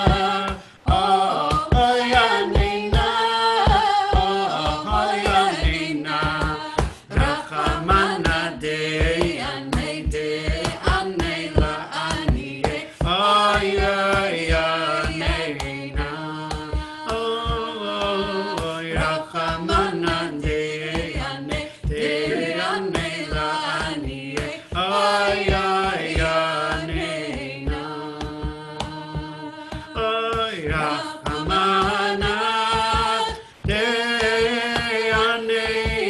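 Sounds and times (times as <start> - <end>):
steady low beat: 0.0 - 36.0.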